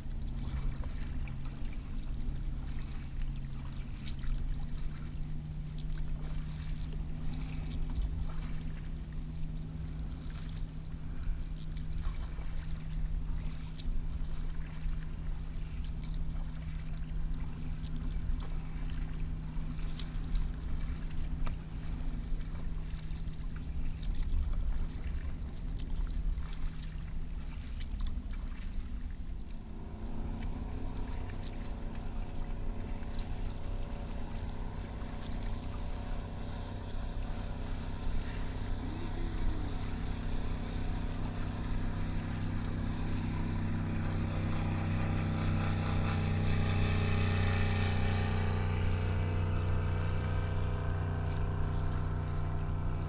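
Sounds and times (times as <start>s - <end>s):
kayak paddle splashing: 0.0s - 53.0s
motorboat engine droning: 0.0s - 53.0s.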